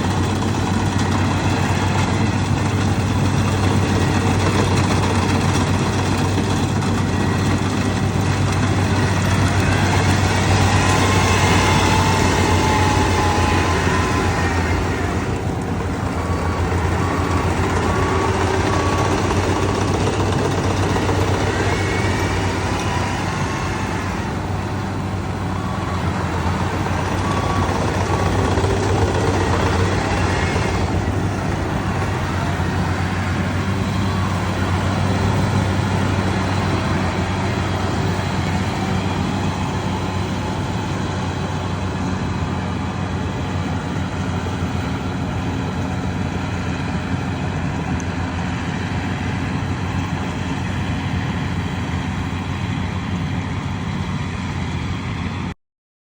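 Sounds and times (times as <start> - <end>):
harvester engine running: 0.0 - 55.6.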